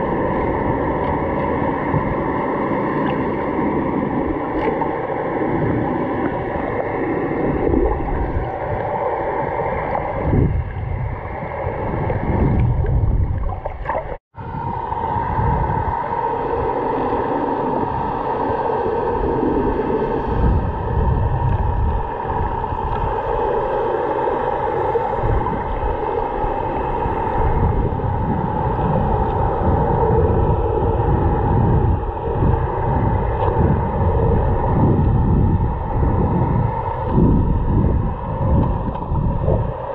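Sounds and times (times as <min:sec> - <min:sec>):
steady hum: 0:00.0 - 0:39.9
water rushing over camera: 0:00.0 - 0:39.9.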